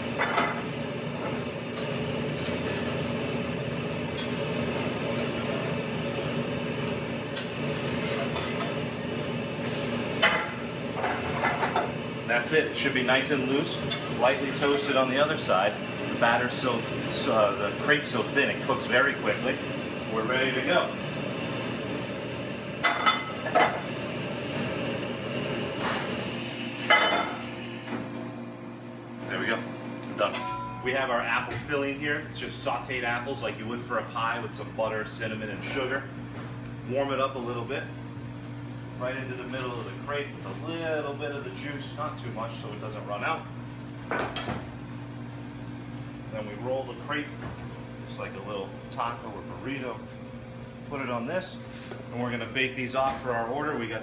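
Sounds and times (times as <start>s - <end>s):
gas range and exhaust hood roar: 0.0s - 54.0s
ventilation hum: 0.0s - 54.0s.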